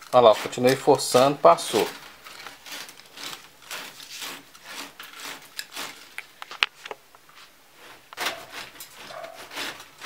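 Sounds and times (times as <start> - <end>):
fish tape rasping in conduit: 0.0 - 6.4, 7.8 - 10.0.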